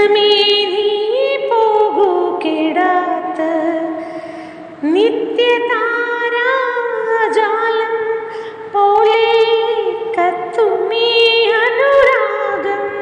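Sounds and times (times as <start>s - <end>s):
woman singing slow song: 0.0s - 13.0s.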